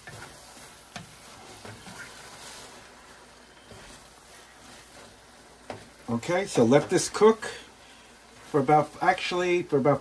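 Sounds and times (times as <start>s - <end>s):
food simmering in pots: 0.0s - 10.0s.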